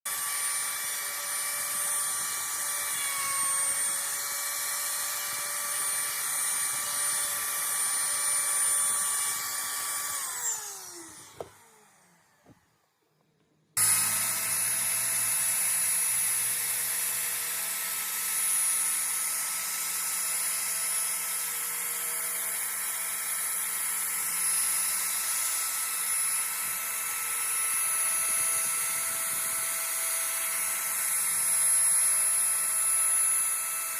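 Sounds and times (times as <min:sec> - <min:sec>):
router motor whining: 0:00.1 - 0:12.9, 0:13.8 - 0:33.9.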